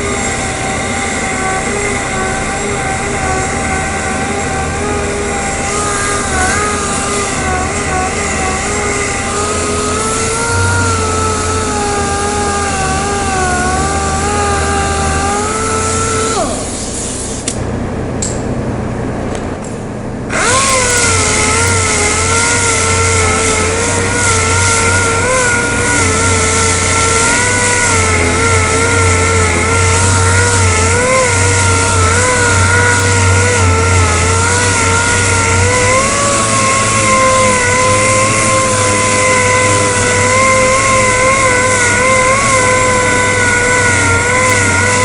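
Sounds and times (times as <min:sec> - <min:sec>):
sander whining: 0:00.0 - 0:17.7, 0:20.3 - 0:45.0.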